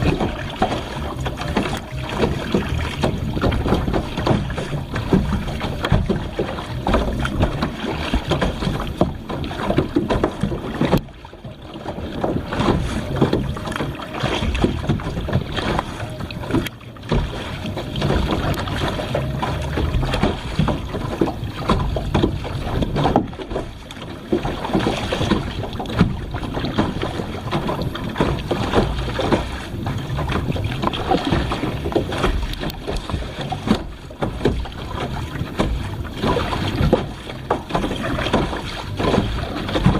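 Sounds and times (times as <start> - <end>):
water splashing around kayak: 0.0 - 39.9.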